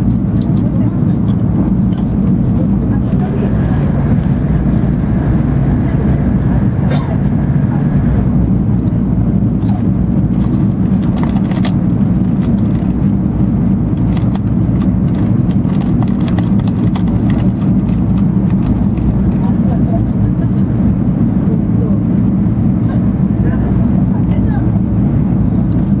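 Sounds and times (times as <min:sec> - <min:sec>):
train rumbling at speed: 0:00.0 - 0:26.0.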